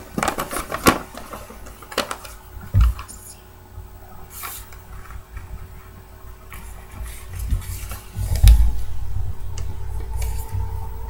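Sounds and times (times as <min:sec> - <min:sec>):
paper folding and crackling: 0:00.0 - 0:03.4, 0:04.2 - 0:10.8.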